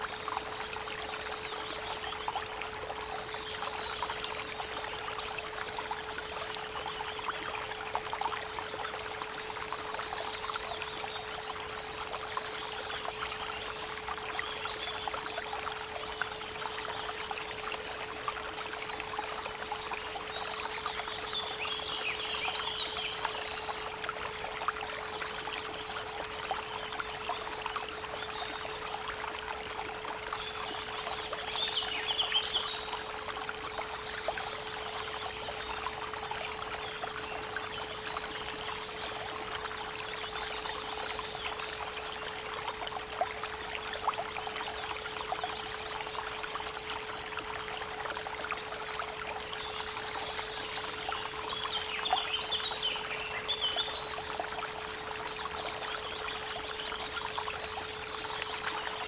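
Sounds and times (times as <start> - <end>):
creek running: 0.0 - 59.0.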